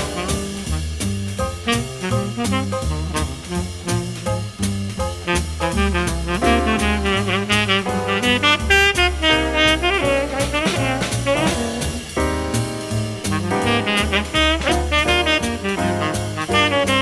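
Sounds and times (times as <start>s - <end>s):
saxophone and brass melody: 0.0s - 4.5s, 5.1s - 17.0s
steady bass line: 0.0s - 17.0s
swing jazz music: 0.0s - 17.0s.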